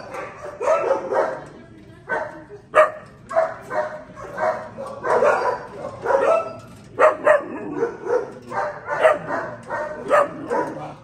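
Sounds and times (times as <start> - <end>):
puppies barking and yipping: 0.0 - 1.5, 2.1 - 11.0.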